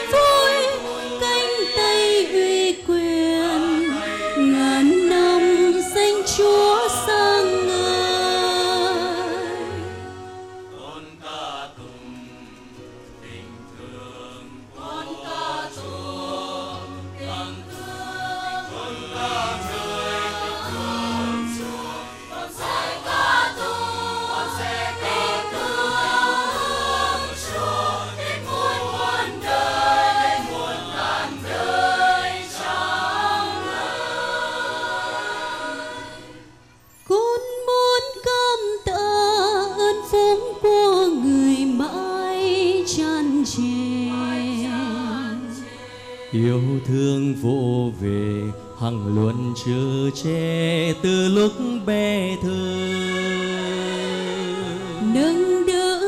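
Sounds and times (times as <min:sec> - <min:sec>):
choir singing a hymn: 0:00.0 - 0:36.8, 0:39.5 - 0:56.0
instrumental accompaniment: 0:00.0 - 0:56.0.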